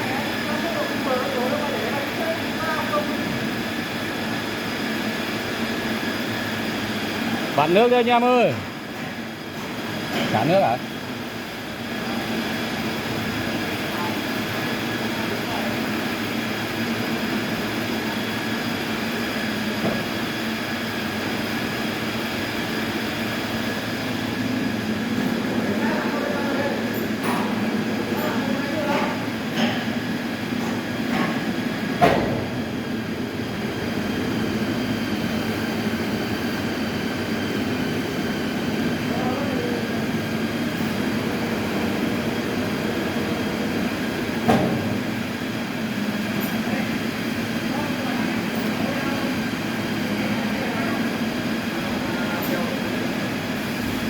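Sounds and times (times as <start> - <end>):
constant machine whine: 0.0 - 54.0
sawmill machinery droning: 0.0 - 54.0.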